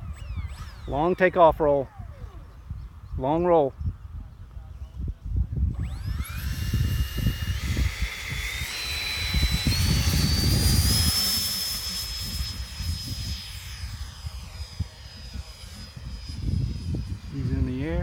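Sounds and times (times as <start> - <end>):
ducted-fan motor whine: 0.0 - 18.0
wind rumble on microphone: 0.0 - 18.0.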